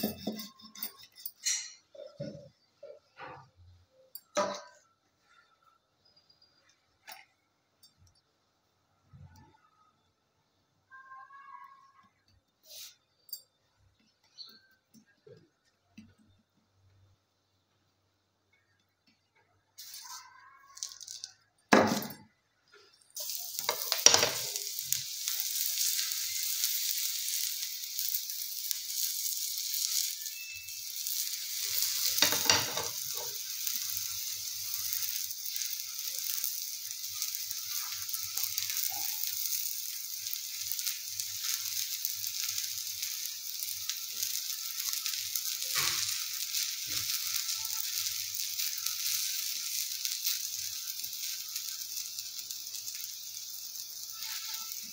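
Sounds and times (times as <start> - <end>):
flatbread sizzling in a frying pan: 0.0 - 7.9, 10.8 - 17.1, 19.6 - 54.9.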